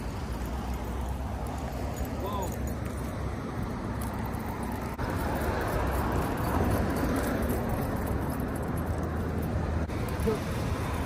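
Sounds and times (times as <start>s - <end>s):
car traffic going by: 0.0s - 11.0s.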